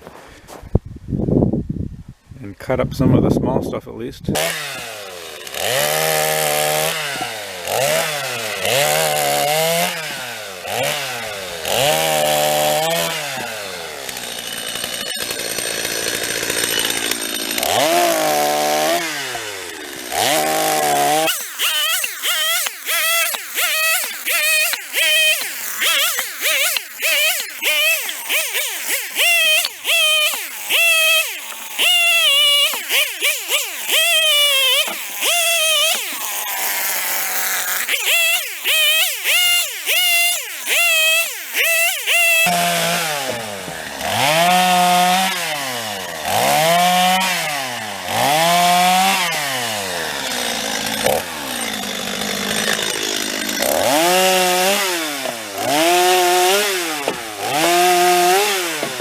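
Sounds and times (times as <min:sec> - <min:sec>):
chainsaw revving and cutting wood: 0:04.3 - 0:59.0.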